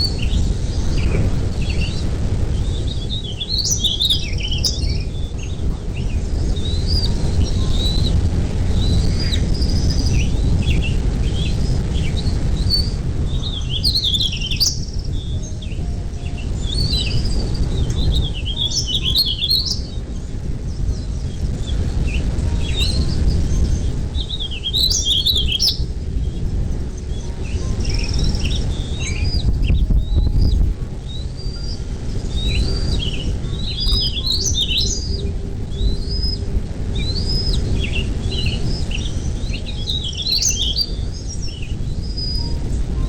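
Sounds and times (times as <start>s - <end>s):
birds chirping: 0.0s - 43.0s
steady low rumble: 0.0s - 43.0s.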